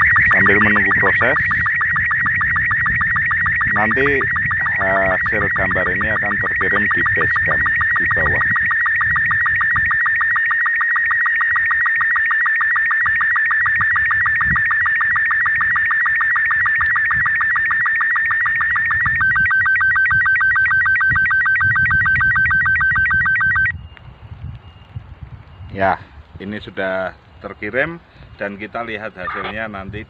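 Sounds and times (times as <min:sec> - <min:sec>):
sstv signal warbling electronic tones: 0:00.0 - 0:23.8, 0:29.0 - 0:29.7.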